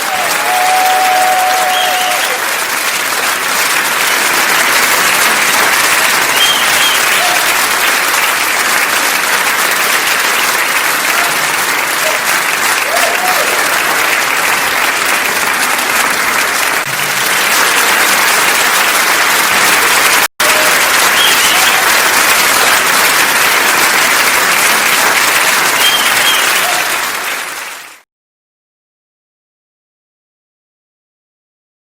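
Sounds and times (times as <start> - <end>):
crowd applauding: 0.0 - 28.1.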